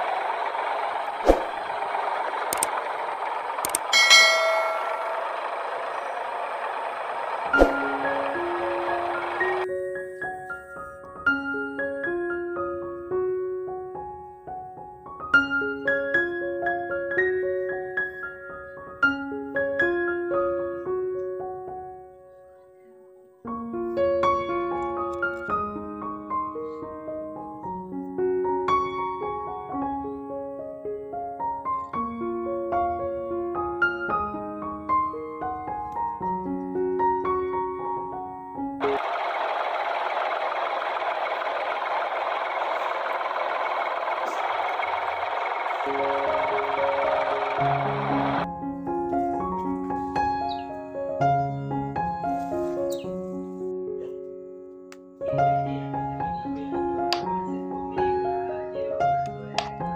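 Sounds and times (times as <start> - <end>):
piano music: 3.7 - 22.1, 23.6 - 59.9.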